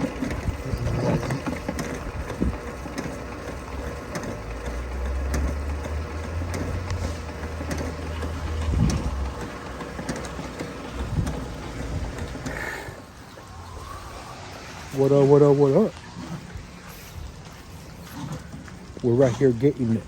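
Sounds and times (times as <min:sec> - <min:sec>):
drain-cleaning machine humming: 0:00.0 - 0:20.0.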